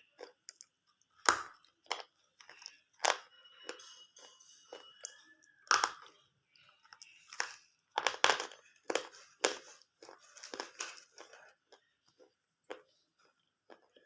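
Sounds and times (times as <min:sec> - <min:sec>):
pencils crunching being chewed: 0:00.0 - 0:03.8, 0:04.7 - 0:14.0.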